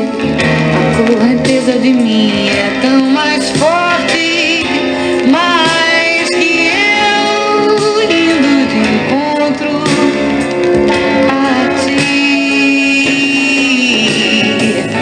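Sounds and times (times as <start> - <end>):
pop ballad from vinyl record: 0.0 - 15.0.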